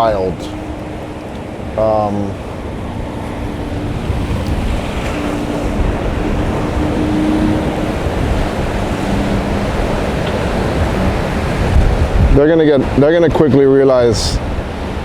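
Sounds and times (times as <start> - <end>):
faint boat engine drone: 0.0 - 15.0
rough surf: 0.0 - 15.0
wind buffeting microphone: 0.0 - 15.0.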